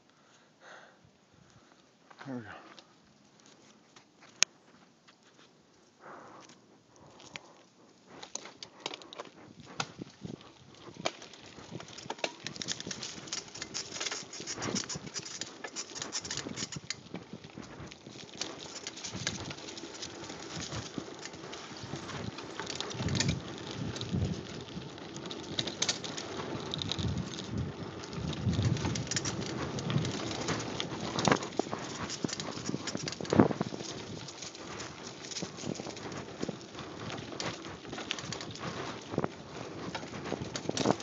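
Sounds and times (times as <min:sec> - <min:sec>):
bike tyres crackling over dirt and leaves: 0:01.4 - 0:41.0.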